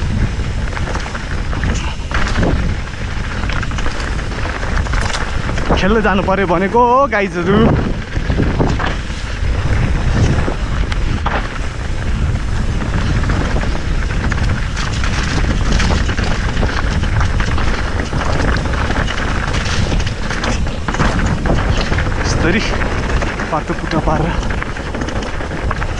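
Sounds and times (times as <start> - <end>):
bike rattling over rough ground: 0.0 - 9.0, 9.6 - 25.9
wind buffeting microphone: 0.0 - 25.9.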